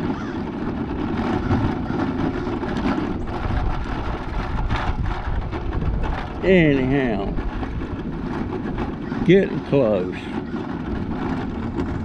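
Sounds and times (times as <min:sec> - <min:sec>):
motor and tyre rumble: 0:00.0 - 0:12.0
wind on microphone: 0:00.0 - 0:12.0.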